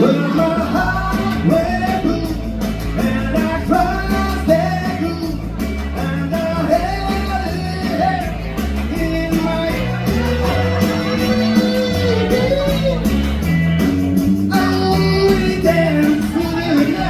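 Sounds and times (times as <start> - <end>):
person singing: 0.0 - 13.5, 14.3 - 17.0
rock and roll band playing: 0.0 - 17.0.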